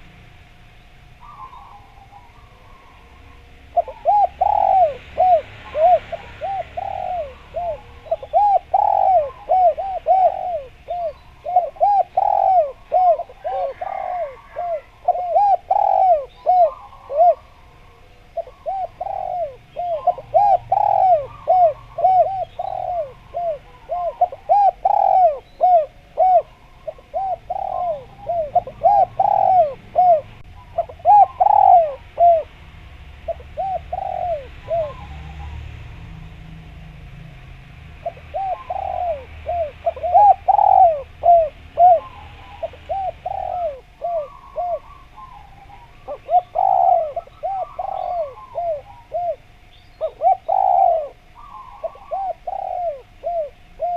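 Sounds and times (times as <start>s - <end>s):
doves cooing: 0.0s - 37.3s, 37.9s - 53.9s.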